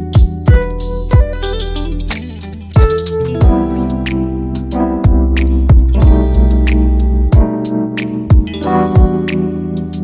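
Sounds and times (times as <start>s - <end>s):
instrumental music with plucked guitar: 0.0s - 10.0s.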